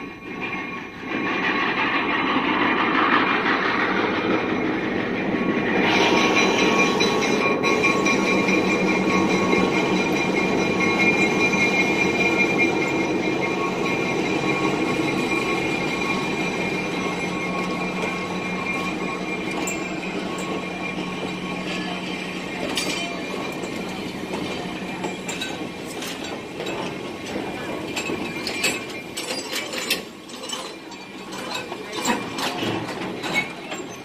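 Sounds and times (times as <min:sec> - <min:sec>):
diesel locomotive engine hum: 0:00.0 - 0:34.0
rail car squeaks and clanks: 0:00.0 - 0:34.0
train wheels rumbling on rails: 0:00.0 - 0:34.0.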